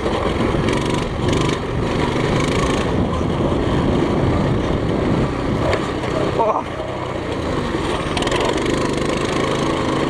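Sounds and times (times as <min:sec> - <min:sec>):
motorbike engine at high revs: 0:00.0 - 0:10.0.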